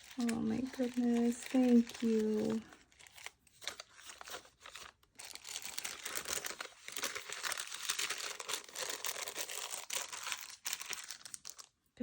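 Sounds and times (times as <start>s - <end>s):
paper rustling and crinkling: 0.0s - 11.8s.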